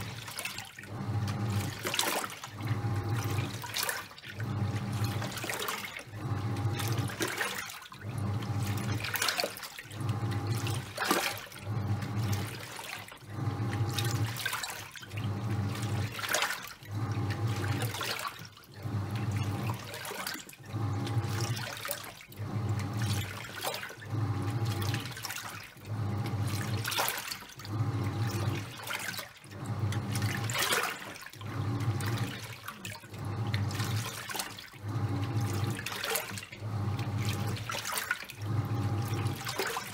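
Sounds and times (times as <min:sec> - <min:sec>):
washing machine motor humming: 0:00.0 - 0:39.9
water and towels sloshing: 0:00.0 - 0:39.9.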